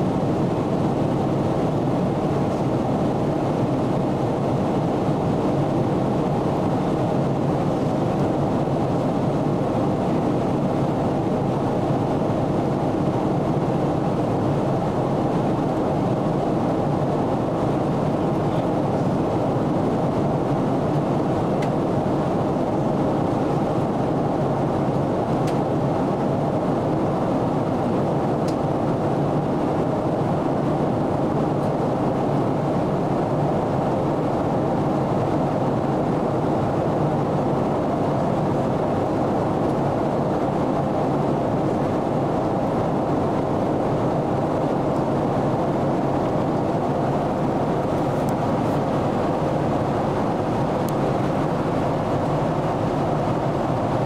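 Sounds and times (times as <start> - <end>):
airplane cabin airflow rush: 0.0 - 54.0.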